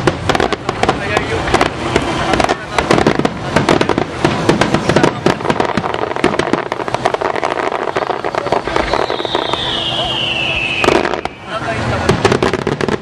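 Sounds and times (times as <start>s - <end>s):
fireworks bursting and crackling: 0.0s - 13.0s
whistling firework: 0.0s - 13.0s.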